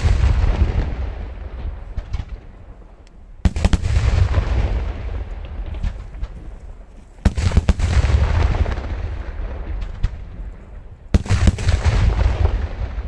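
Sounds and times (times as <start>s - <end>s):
fireworks bursting with echo: 0.0s - 13.0s.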